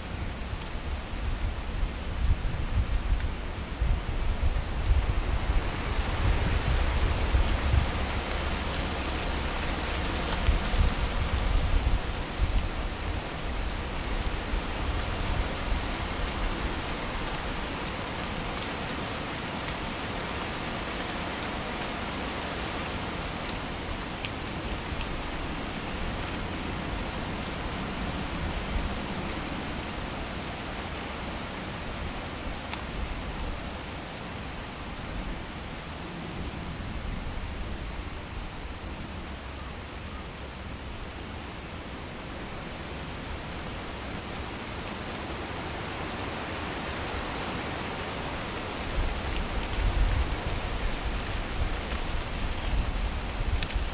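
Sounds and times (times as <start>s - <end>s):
wind rustling leaves: 0.0s - 53.9s.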